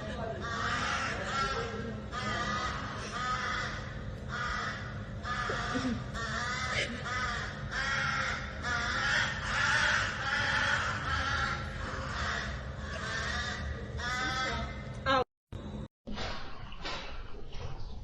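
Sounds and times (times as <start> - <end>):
animal calling: 0.3 - 14.8.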